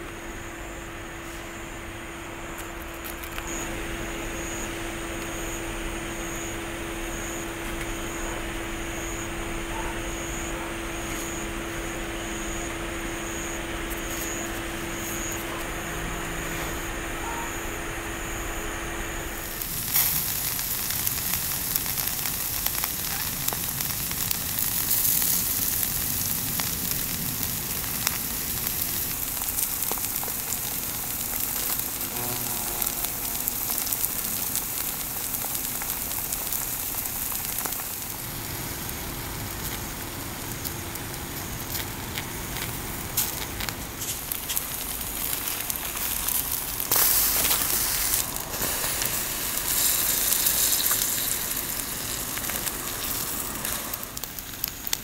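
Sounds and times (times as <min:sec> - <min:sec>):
food sizzling and popping: 0:01.2 - 0:55.0.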